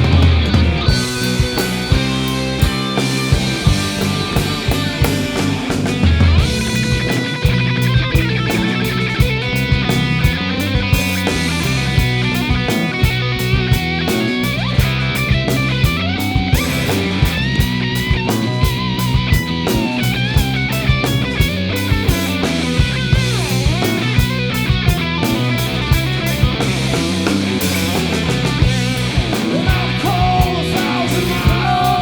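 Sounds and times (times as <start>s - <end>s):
bass notes: 0.0s - 32.0s
drum beat: 0.0s - 32.0s
guitar: 0.0s - 32.0s.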